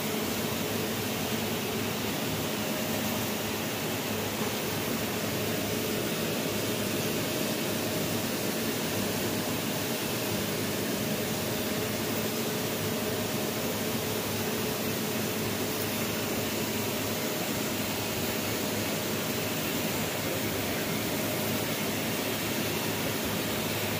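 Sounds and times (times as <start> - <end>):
steam hissing: 0.0 - 23.9.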